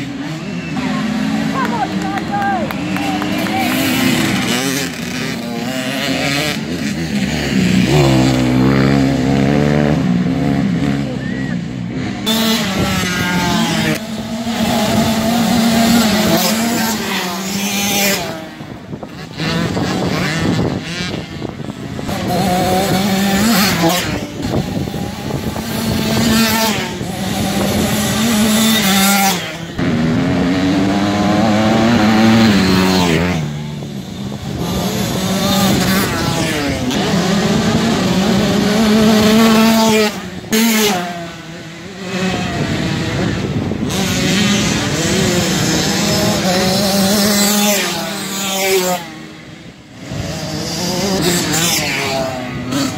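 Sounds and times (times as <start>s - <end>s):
motocross bikes revving past: 0.0s - 52.9s.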